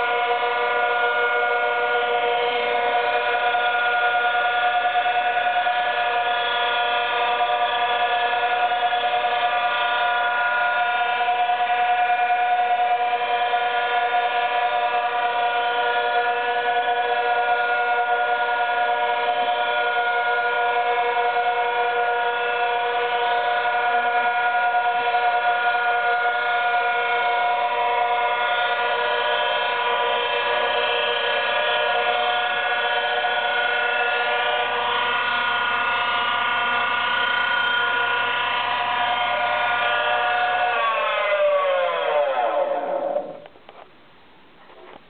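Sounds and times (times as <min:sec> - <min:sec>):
milling machine cutting whine: 0:00.0 - 0:43.8.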